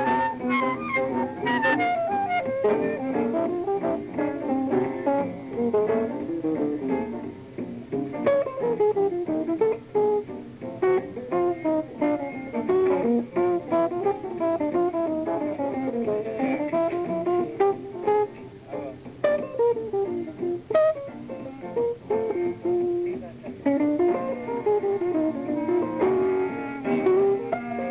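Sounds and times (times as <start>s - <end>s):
jazz trio playing: 0.0s - 27.9s
plucked guitar notes: 0.0s - 27.9s.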